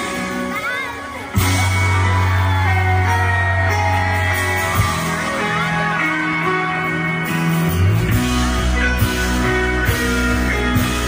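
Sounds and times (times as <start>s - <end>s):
crowd shouts: 0.0s - 11.0s.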